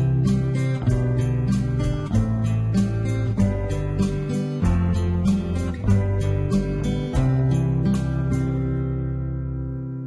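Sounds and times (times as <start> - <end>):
plucked string chord: 0.0 - 10.0.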